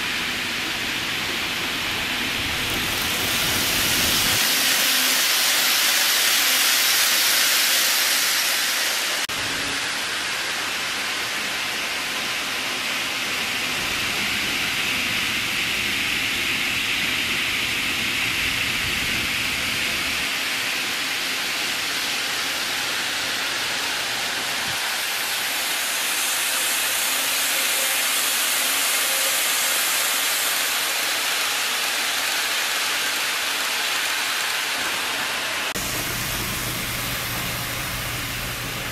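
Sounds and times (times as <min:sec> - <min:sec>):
model trains running on track: 0:00.0 - 0:38.9.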